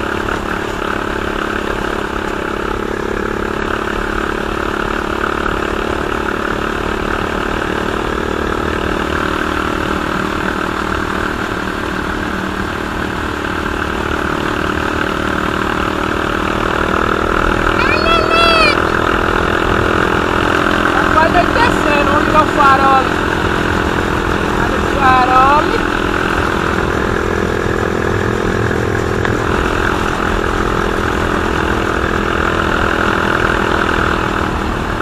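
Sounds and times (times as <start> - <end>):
buggy engine running: 0.0 - 35.0
rumble from road and chassis: 0.0 - 35.0.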